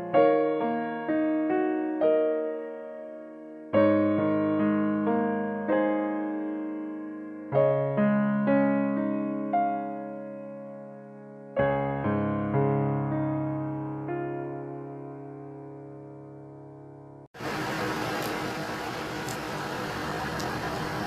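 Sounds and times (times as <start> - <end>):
slow gentle piano music: 0.0 - 17.4.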